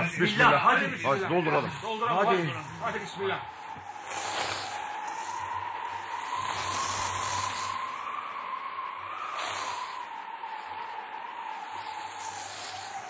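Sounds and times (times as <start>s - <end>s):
faint wavering whistle: 0.0s - 13.0s
steady hissing noise: 0.0s - 13.0s.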